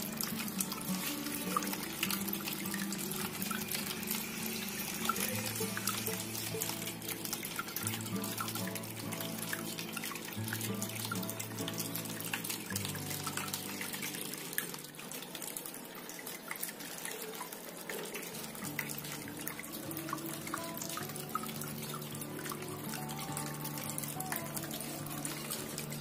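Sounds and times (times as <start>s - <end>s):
fountain water splashing: 0.0s - 26.0s
soft background music: 0.0s - 26.0s.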